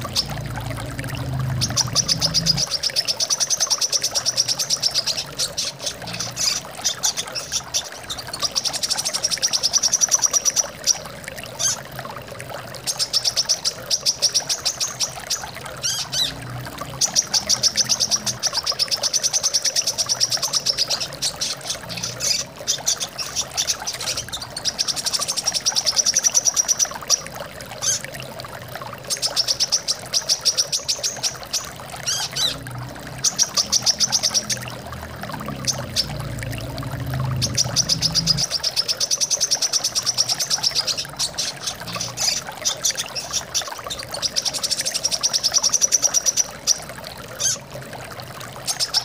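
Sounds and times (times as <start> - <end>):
flowing water: 0.0 - 49.0.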